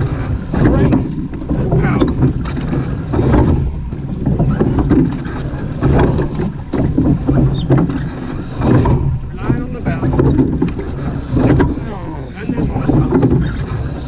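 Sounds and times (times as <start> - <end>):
oar strokes through water: 0.0 - 14.0
rush of wind and water: 0.0 - 14.0.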